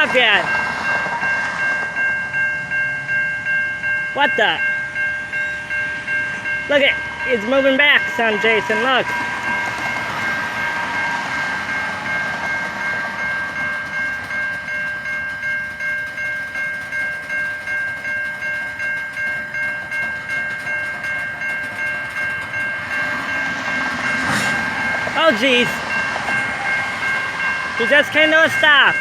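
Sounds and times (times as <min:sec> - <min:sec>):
freight train rumbling: 0:00.0 - 0:29.0
railroad crossing bell ringing: 0:00.0 - 0:29.0.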